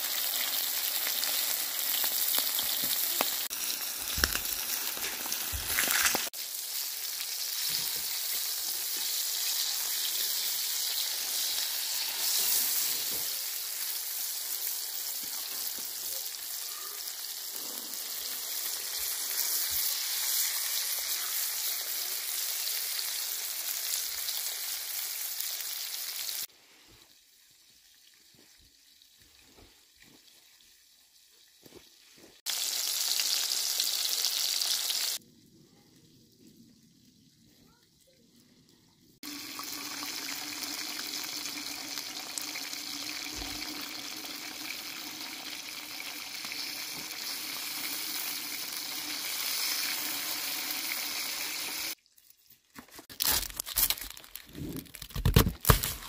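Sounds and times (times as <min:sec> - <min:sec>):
food sizzling: 0:00.0 - 0:35.2, 0:39.2 - 0:56.0.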